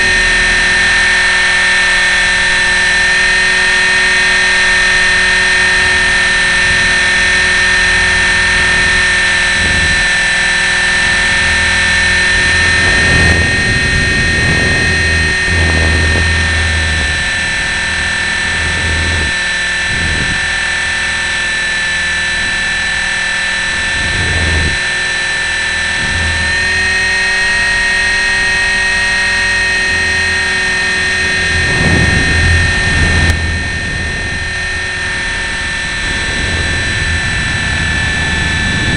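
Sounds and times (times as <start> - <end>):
electric motor high whine: 0.0 - 38.9
low buffeting rumbles: 0.0 - 38.9.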